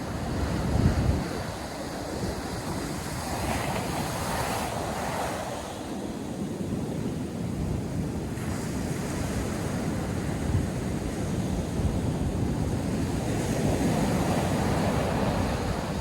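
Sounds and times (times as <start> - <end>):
surf breaking on a sandy beach: 0.0 - 16.0
wind buffeting the microphone: 0.0 - 16.0.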